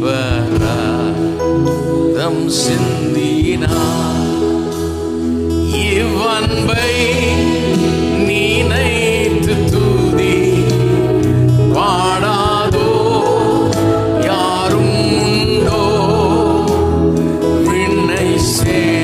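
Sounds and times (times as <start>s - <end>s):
band accompaniment: 0.0s - 19.0s
man singing into a microphone: 0.0s - 19.0s.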